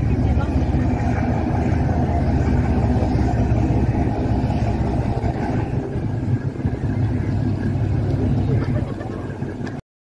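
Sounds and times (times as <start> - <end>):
ferry diesel engine rumble: 0.0 - 9.8.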